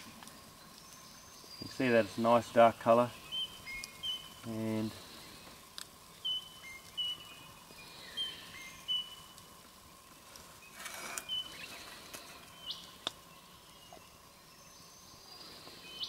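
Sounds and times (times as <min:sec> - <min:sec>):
birds chirping and whistling: 0:00.0 - 0:16.0.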